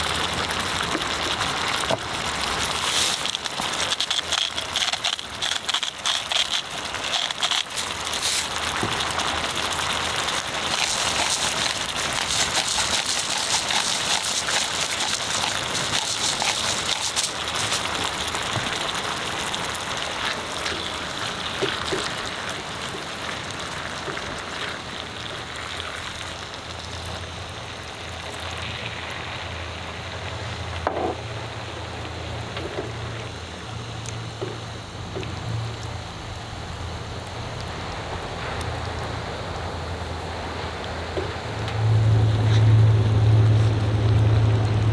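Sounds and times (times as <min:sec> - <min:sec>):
food sizzling in frying pan: 0:00.0 - 0:44.9
low steady hum: 0:00.0 - 0:44.9.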